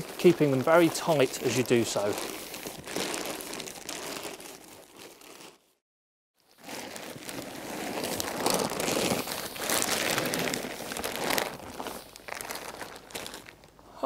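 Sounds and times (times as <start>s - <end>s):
tent fabric rustling and crinkling: 0.0s - 5.8s, 6.4s - 13.8s.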